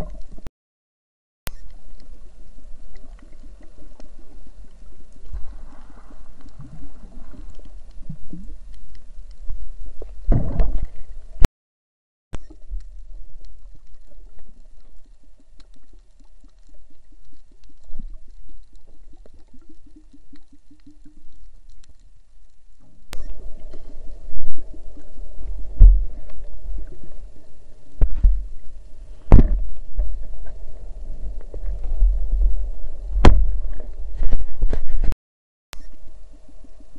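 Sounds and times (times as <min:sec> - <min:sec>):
low underwater rumble: 0:00.0 - 0:00.5, 0:01.5 - 0:11.5, 0:12.4 - 0:35.2, 0:35.8 - 0:36.9.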